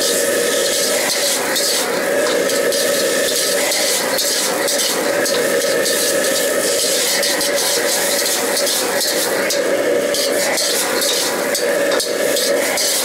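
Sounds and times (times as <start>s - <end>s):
gas burner running: 0.0s - 13.0s
noodles sizzling in wok: 0.0s - 13.0s.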